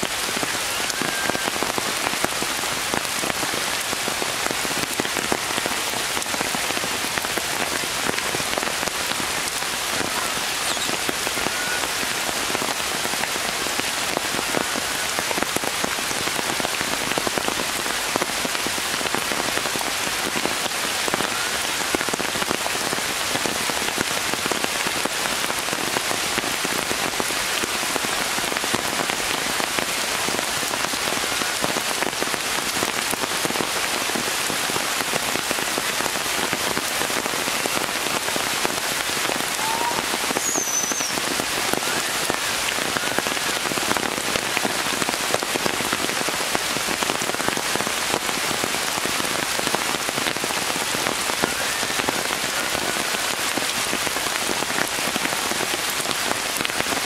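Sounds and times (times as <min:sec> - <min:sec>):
rain on tree leaves: 0:00.0 - 0:57.0.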